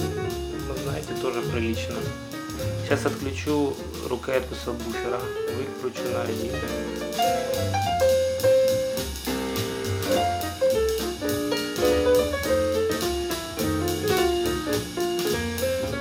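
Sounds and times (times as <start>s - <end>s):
jazz music through speakers: 0.0s - 16.0s.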